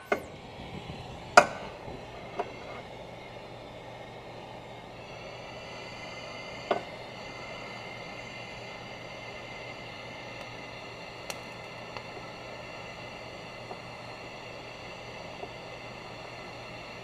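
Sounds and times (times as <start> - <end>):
gas torch hissing: 0.0 - 17.0.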